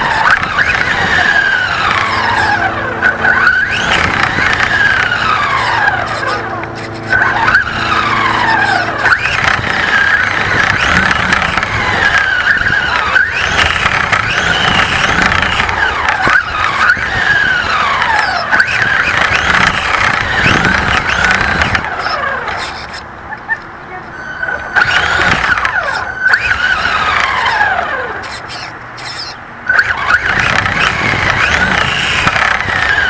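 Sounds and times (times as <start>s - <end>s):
toy car motor whining: 0.0s - 33.0s.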